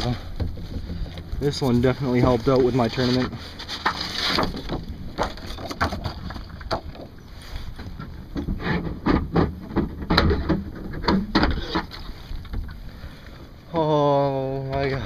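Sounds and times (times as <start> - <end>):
knocks and scrapes on plastic kayak: 0.0 - 13.1.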